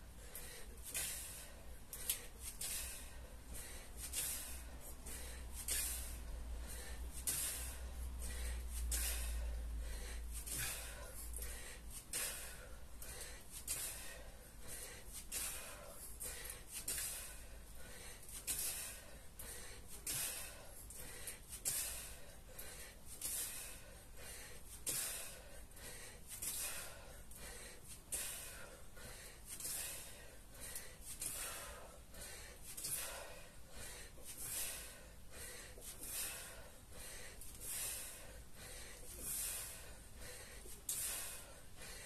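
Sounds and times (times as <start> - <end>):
man breathing hard: 0.0 - 42.0.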